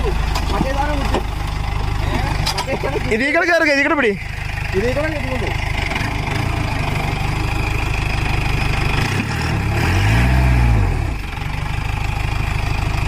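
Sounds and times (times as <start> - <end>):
jeep engine running and revving: 0.0 - 13.0.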